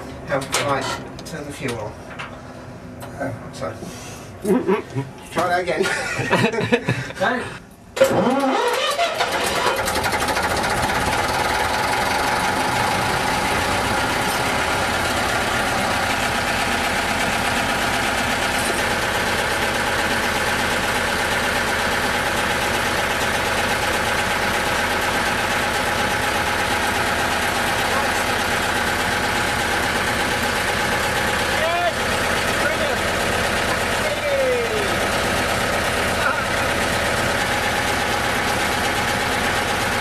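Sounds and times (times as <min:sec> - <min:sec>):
diesel engine running steadily: 0:00.0 - 0:06.3, 0:07.0 - 0:40.0.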